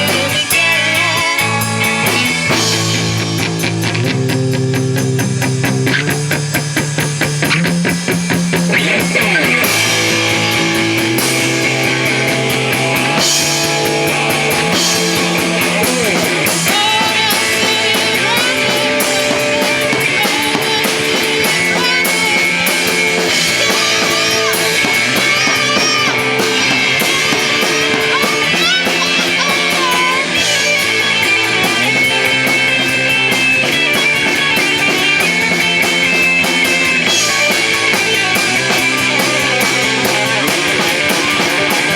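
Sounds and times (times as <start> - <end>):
rock band playing: 0.0 - 41.9.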